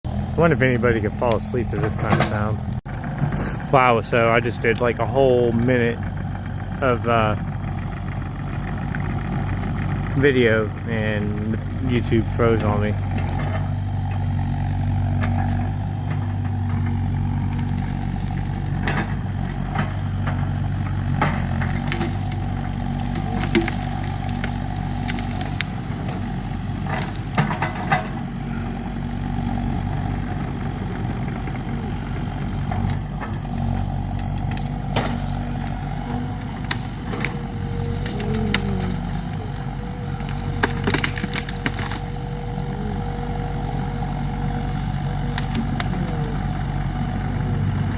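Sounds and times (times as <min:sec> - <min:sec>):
diesel engine running: 0:00.0 - 0:47.9
burning tree crackling: 0:00.1 - 0:47.9.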